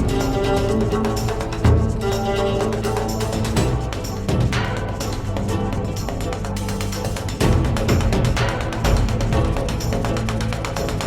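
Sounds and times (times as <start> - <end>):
background music with heavy bass: 0.0 - 11.0.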